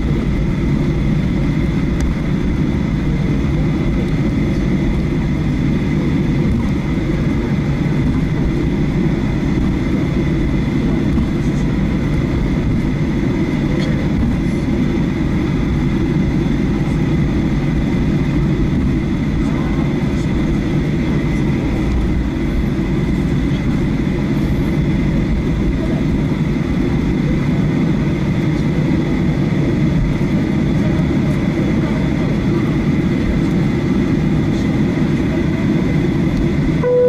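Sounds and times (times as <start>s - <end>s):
jet engine rumble with whine: 0.0s - 37.0s.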